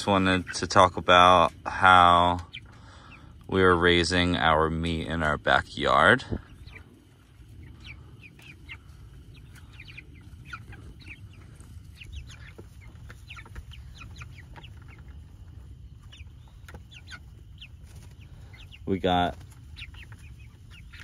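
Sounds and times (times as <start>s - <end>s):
steady low rumble: 0.0s - 18.8s
chicks peeping and cheeping: 0.0s - 21.0s.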